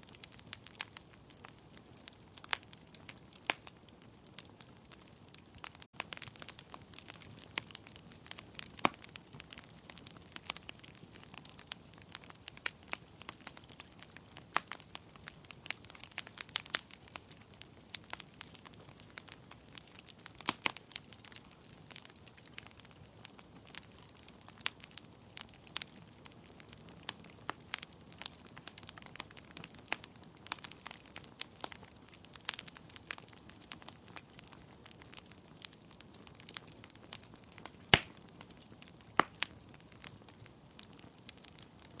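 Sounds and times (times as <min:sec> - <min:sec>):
logs crackling and popping: 0:00.0 - 0:42.0
soft hiss of flames: 0:00.0 - 0:42.0.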